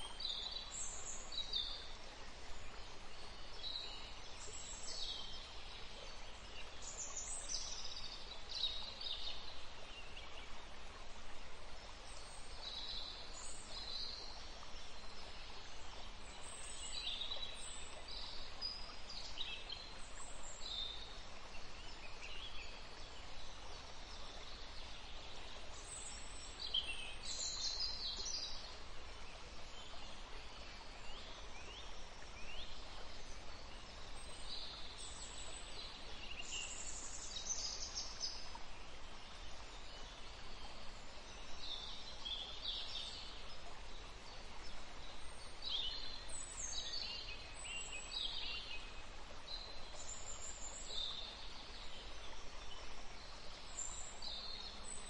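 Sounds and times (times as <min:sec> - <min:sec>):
distant waterfall: 0:00.0 - 0:55.0
songbirds chirping: 0:00.0 - 0:55.0.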